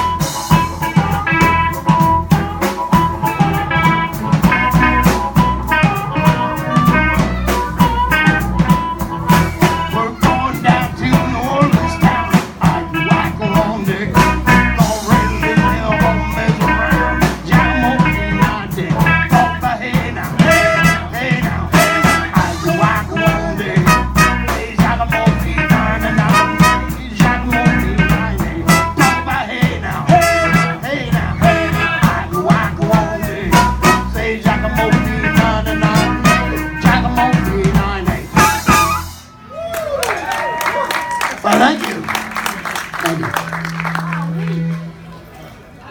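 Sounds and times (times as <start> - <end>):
harmonica lead: 0.0 - 39.5
live blues band: 0.0 - 45.8.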